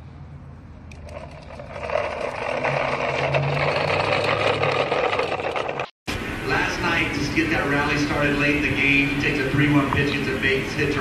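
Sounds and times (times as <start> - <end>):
vehicle engine humming: 0.0 - 11.0
rolling rattling noise: 0.9 - 11.0.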